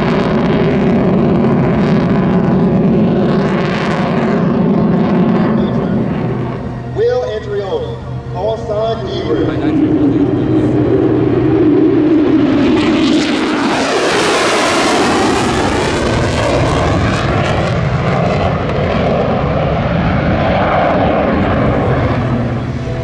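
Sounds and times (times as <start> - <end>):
jet engine flyby: 0.0 - 23.0.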